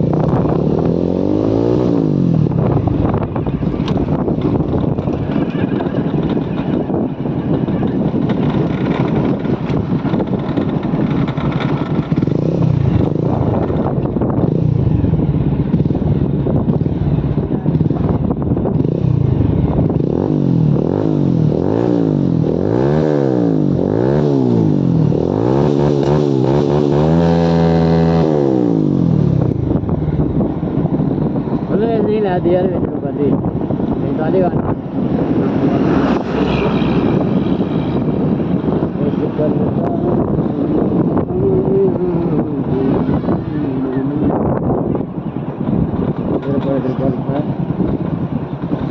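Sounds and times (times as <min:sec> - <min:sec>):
motorcycle engine running: 0:00.0 - 0:48.9
wind rushing over microphone: 0:00.0 - 0:48.9.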